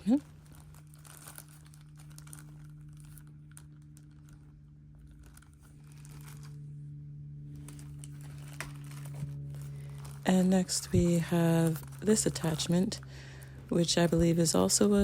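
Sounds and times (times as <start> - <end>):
plastic packaging crinkling: 0.0 - 15.0
steady low hum: 0.0 - 15.0.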